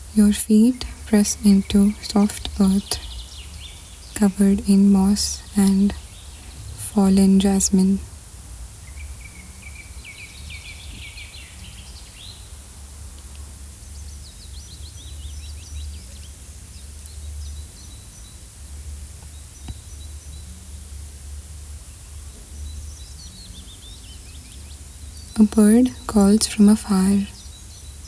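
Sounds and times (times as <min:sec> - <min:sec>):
small birds chirping: 0:00.0 - 0:08.2, 0:08.8 - 0:20.9, 0:21.7 - 0:28.0
low rumble and hiss: 0:00.0 - 0:28.0.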